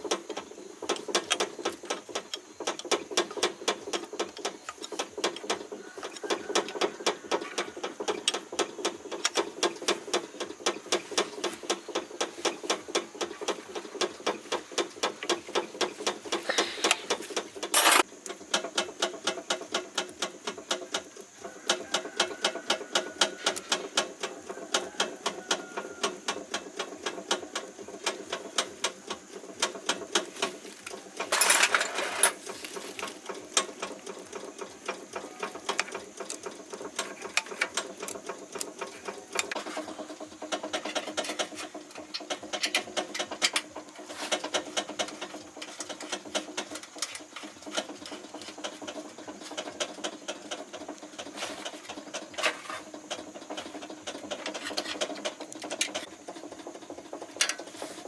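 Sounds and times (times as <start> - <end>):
machine clicking: 0.0 - 57.8.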